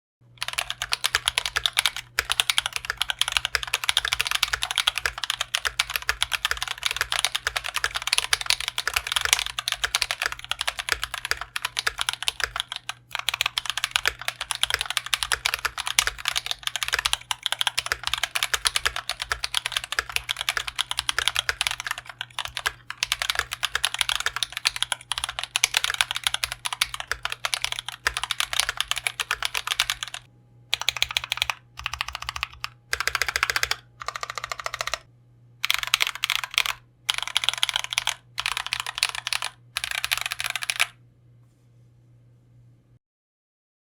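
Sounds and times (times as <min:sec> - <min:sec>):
fast typing on mechanical keyboard: 0:00.4 - 0:41.0.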